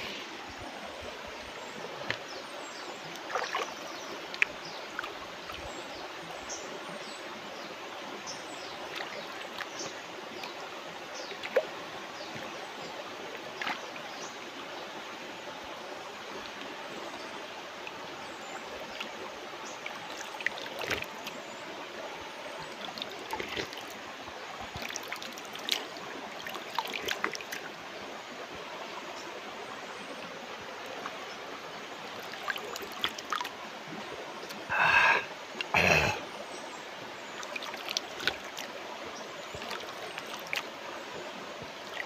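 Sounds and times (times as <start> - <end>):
stream babbling over stones: 0.0 - 42.0.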